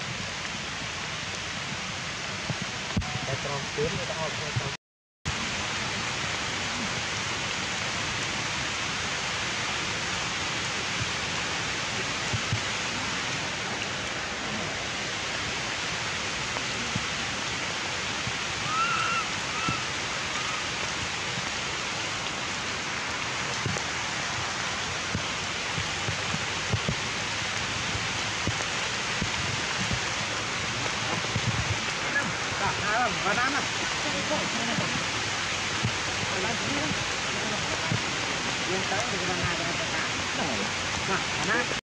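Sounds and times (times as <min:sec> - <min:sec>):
forest ambience hiss: 0:05.3 - 0:41.7.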